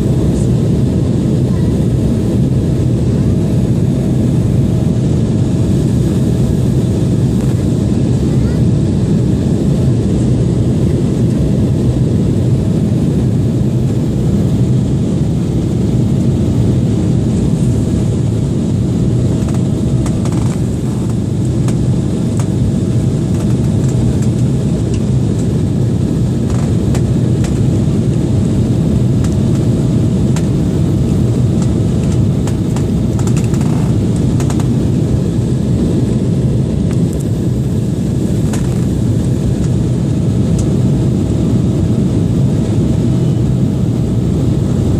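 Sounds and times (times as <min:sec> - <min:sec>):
airliner engines rumbling: 0:00.0 - 0:44.9
constant hum: 0:00.0 - 0:44.9.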